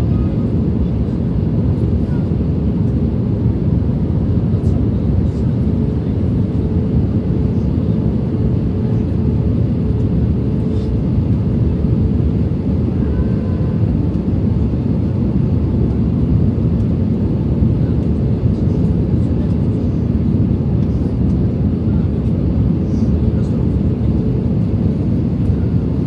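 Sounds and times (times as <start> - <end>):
jet engine and airflow roar: 0.0 - 26.0.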